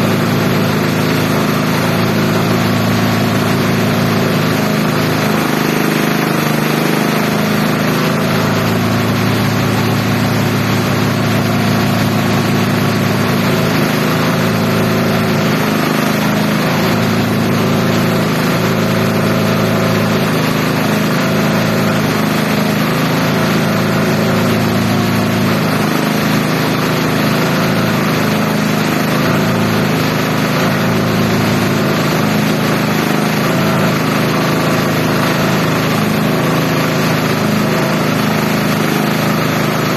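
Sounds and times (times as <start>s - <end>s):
chopper machine droning: 0.0s - 39.9s.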